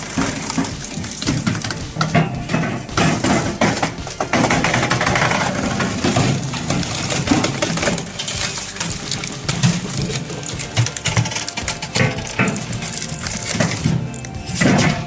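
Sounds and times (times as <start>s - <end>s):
machine running: 0.0s - 15.0s
machinery knocks and clinks: 0.0s - 15.0s.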